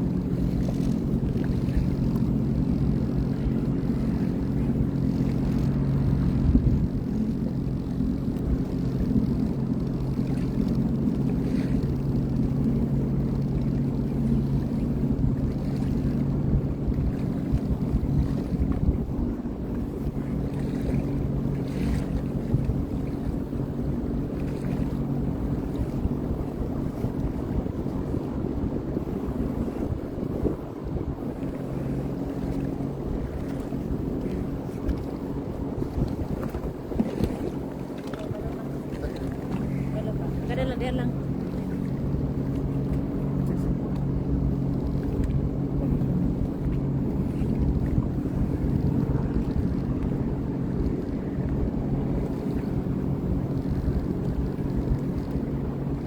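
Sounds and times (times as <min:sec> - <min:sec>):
watercraft engine humming: 0:00.0 - 0:56.0
wind buffeting microphone: 0:00.0 - 0:56.0.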